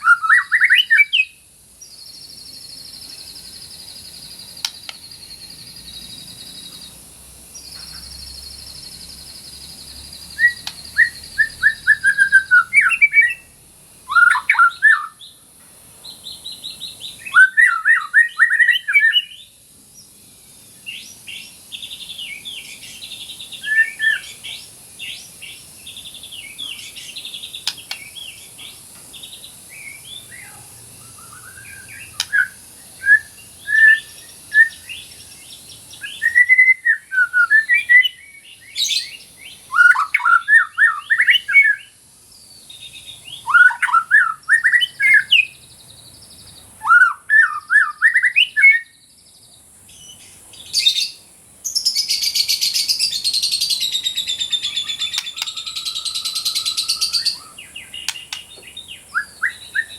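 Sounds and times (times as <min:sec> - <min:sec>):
bird singing varied song: 0:00.0 - 0:59.9
faint steady hiss: 0:00.0 - 0:59.9.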